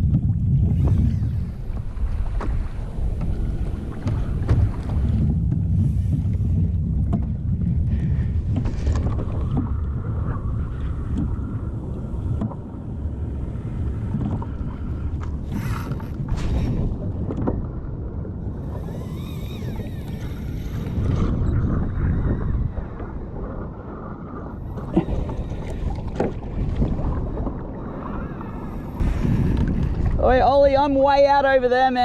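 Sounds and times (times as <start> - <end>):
water moving around kayak: 0.0 - 32.0
wind buffeting microphone: 0.0 - 32.0.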